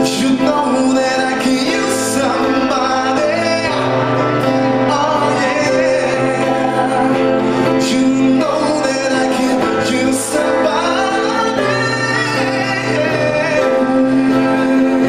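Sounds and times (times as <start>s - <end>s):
acoustic guitar: 0.0s - 15.0s
keyboard: 0.0s - 15.0s
man singing: 0.0s - 15.0s.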